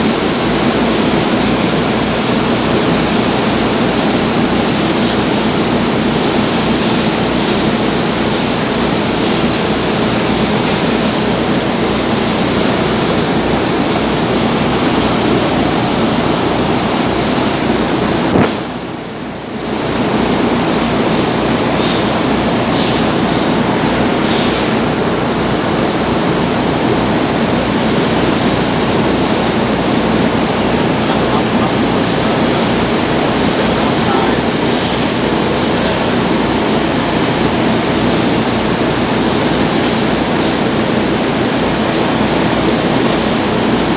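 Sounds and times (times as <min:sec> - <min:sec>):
loud rushing machinery noise: 0:00.0 - 0:43.9.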